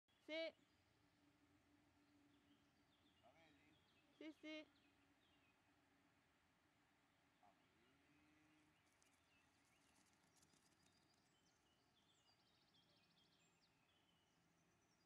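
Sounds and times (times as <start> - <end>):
faint birds chirping and trilling: 0.1 - 15.0.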